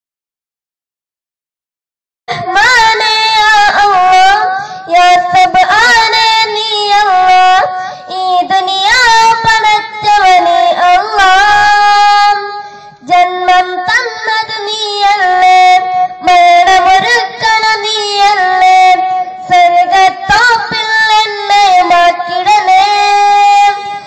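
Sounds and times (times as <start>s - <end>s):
boy singing into a microphone: 2.3s - 24.0s.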